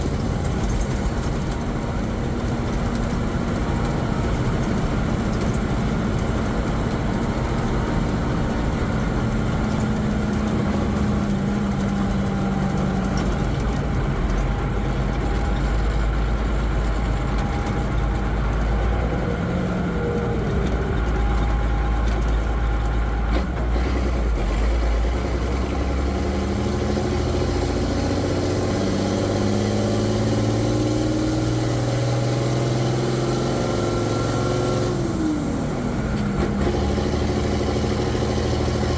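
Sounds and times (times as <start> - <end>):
truck diesel engine from cab: 0.0 - 38.9.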